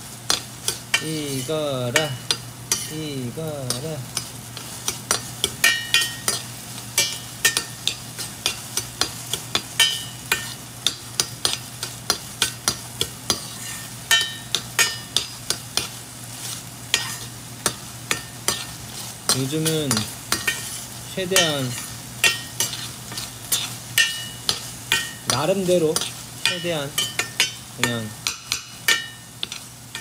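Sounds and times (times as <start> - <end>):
vegetables sizzling in a pan: 0.0 - 30.0
utensil scraping a pan: 3.7 - 10.6, 11.4 - 30.0.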